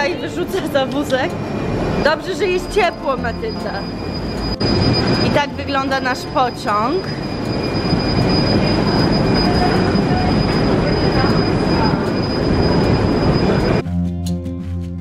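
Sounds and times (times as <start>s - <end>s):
high steady whine: 0.0s - 13.8s
train wheels rumbling on rails: 0.0s - 13.8s.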